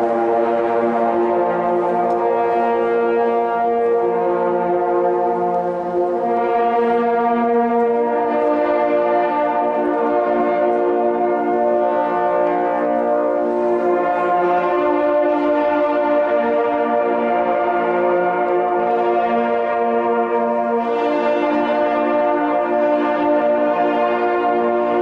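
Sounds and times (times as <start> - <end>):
hunting horns playing chords: 0.0 - 25.0.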